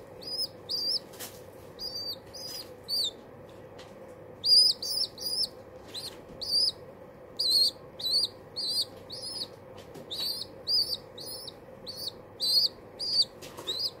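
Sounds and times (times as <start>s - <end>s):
baby pigeon squeaking: 0.0s - 3.2s, 4.4s - 14.0s.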